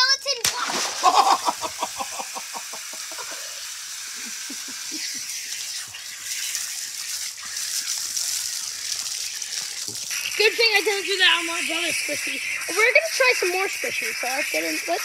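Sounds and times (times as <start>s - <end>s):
hose water splashing on pavement: 0.0s - 15.0s.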